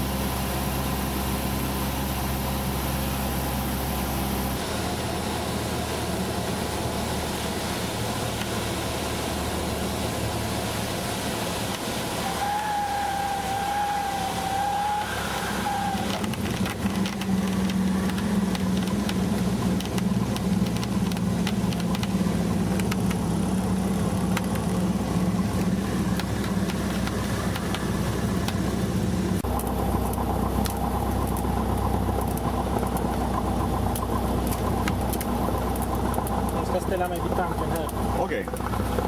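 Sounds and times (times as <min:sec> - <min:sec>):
light aircraft engine and propeller: 0:00.0 - 0:39.0.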